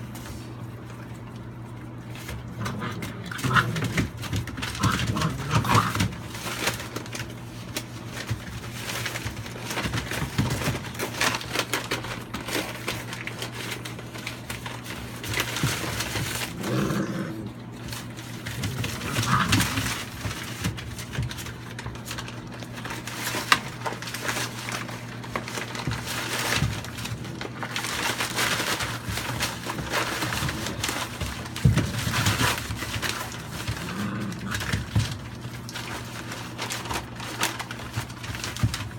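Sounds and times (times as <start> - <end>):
newspaper rustling and tearing: 0.0 - 38.9
puppies scrabbling: 0.0 - 38.9.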